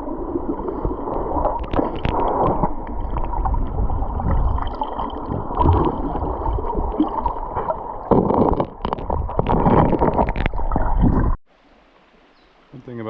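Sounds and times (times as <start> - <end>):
muffled underwater rushing gurgle: 0.0 - 11.4.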